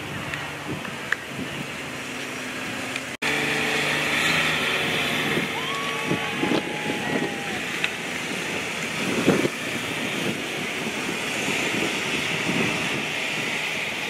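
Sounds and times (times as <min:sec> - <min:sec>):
utility vehicles driving past: 0:00.0 - 0:14.0.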